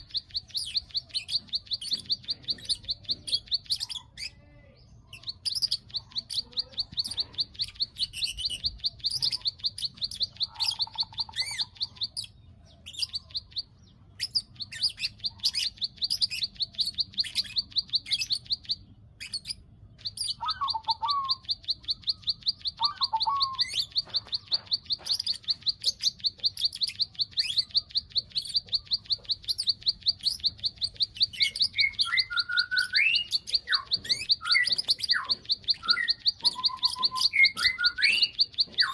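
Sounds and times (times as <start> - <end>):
bird rapid clicking call: 0.0 - 4.3, 5.1 - 38.9
bird short chirps: 0.0 - 38.9.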